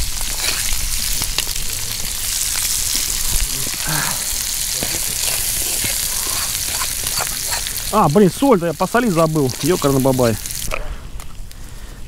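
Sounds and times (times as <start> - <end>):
food sizzling and popping in skillet: 0.0 - 11.5.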